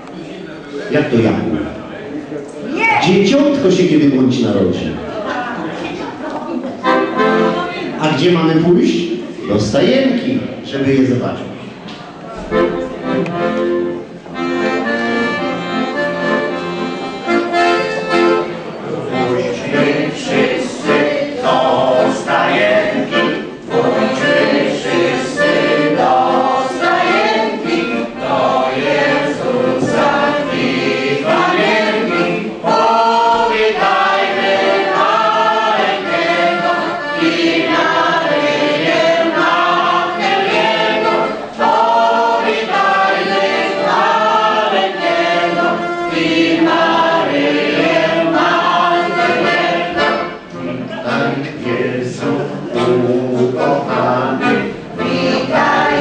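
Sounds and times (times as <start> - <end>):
accordion: 3.3 - 10.6, 12.2 - 56.0
choir singing a carol: 5.2 - 8.2, 12.5 - 56.0.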